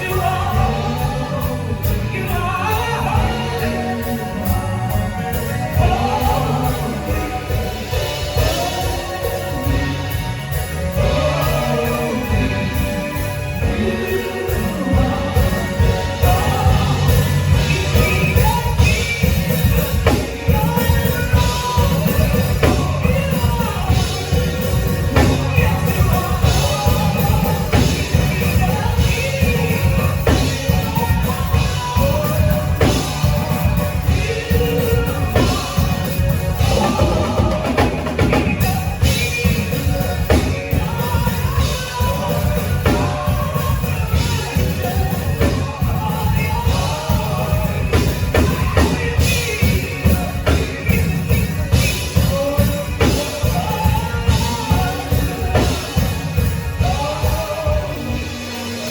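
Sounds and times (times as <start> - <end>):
drum kit beat: 0.0 - 58.9
live band music: 0.0 - 58.9
person singing: 0.0 - 58.9.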